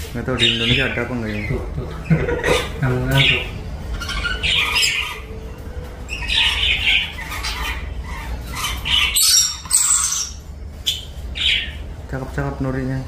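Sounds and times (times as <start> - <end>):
parrots squawking: 0.2 - 12.0.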